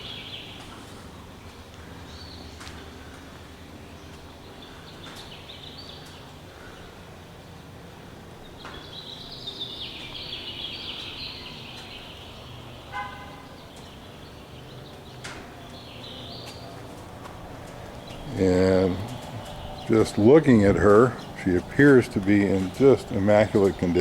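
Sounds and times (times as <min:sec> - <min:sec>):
birds twittering: 0:00.0 - 0:24.0
low background hum: 0:00.0 - 0:24.0.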